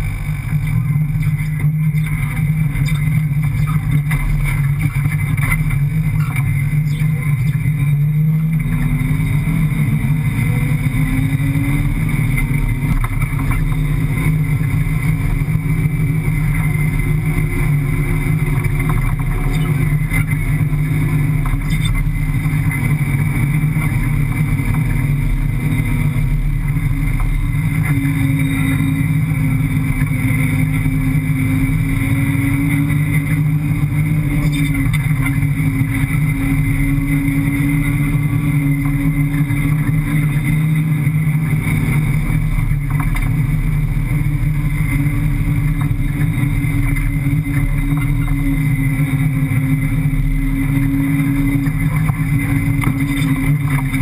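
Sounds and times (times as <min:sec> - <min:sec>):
car engine running under load: 0:00.0 - 0:54.0.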